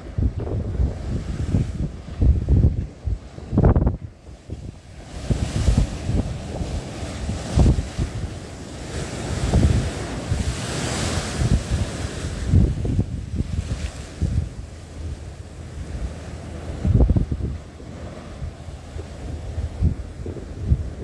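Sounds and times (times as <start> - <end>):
waves splashing against sea wall: 0.0 - 21.0
wind buffeting microphone: 0.0 - 21.0.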